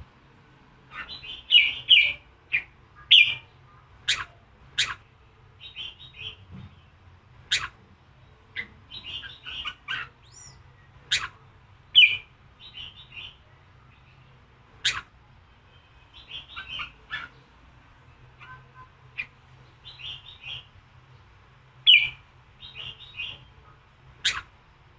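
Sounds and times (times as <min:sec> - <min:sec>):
bulbul singing: 0:00.9 - 0:24.6.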